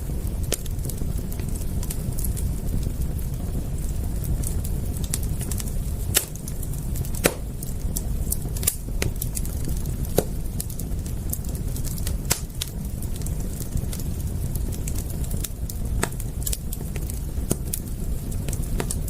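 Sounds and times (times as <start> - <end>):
fire crackling and popping: 0.0 - 19.0
low rumble of fire: 0.0 - 19.0.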